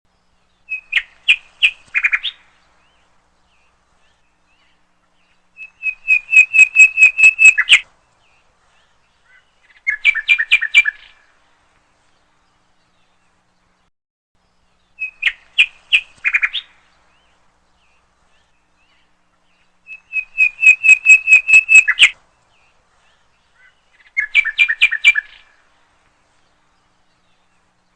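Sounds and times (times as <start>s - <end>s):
bird chirping: 0.1s - 11.4s, 12.0s - 27.9s.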